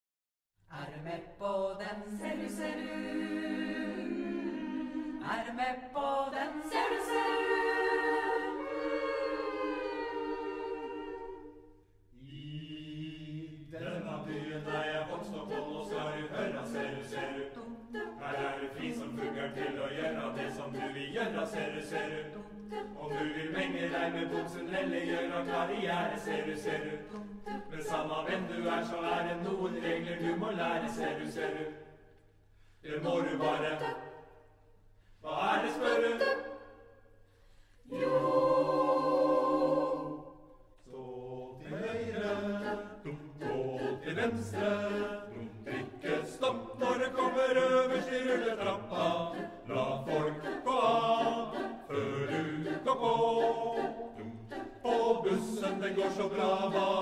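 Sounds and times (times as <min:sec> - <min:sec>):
choir singing a cappella: 0:00.7 - 0:57.0.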